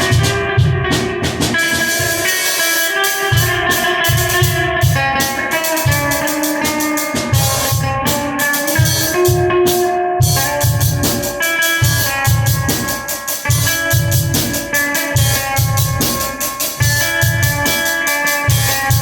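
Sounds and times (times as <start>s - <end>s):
sustained guitar notes: 0.0s - 19.0s.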